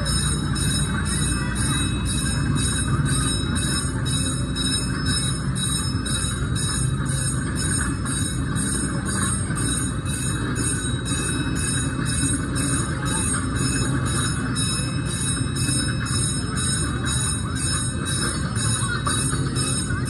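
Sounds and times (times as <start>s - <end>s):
crossing signal bell ringing: 0.0s - 20.0s
train cars rumbling past: 0.0s - 20.0s.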